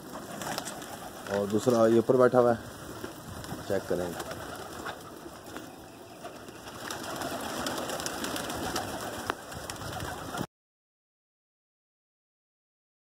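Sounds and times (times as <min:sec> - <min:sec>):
pigeons cooing: 0:00.0 - 0:10.5
wings flapping: 0:00.0 - 0:10.5.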